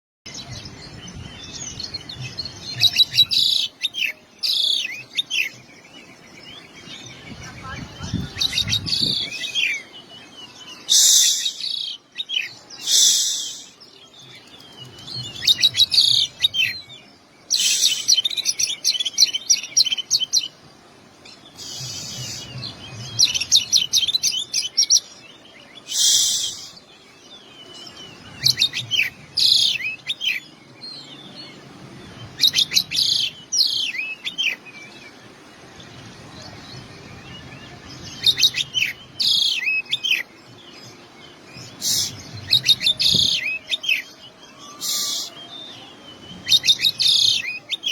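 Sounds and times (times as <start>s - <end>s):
songbird twittering trills: 0.3s - 47.9s.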